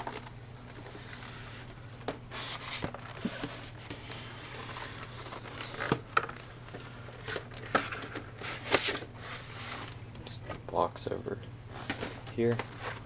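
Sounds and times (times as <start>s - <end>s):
cardboard rustling and scraping: 0.0s - 10.0s, 11.7s - 13.0s
low steady hum: 0.0s - 13.0s.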